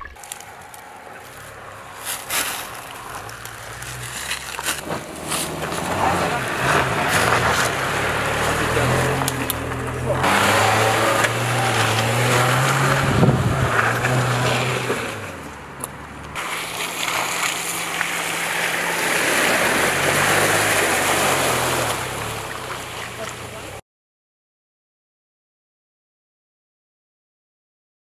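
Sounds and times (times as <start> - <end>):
car engine under load: 0.0 - 23.8
tyres crunching on dirt: 0.0 - 23.8
water and mud splashing: 0.0 - 23.8.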